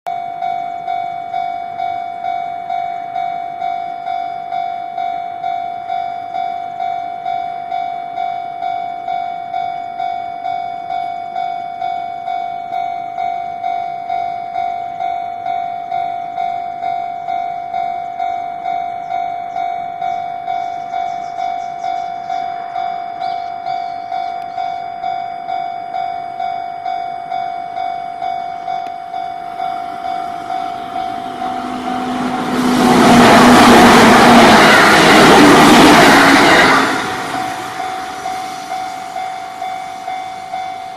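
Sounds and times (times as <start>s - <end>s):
level crossing warning bell ringing: 0.1s - 40.9s.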